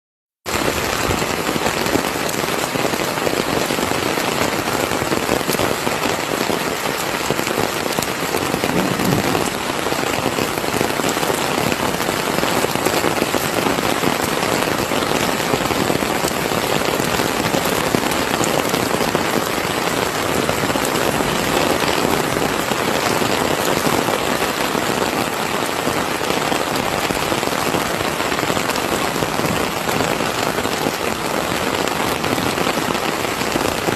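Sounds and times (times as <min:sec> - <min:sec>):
heavy rain hissing: 0:00.5 - 0:33.9.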